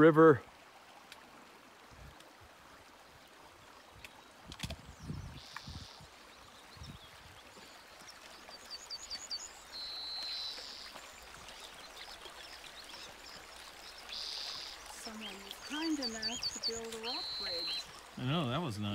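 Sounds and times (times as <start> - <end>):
creek running over rocks: 0.0 - 18.9.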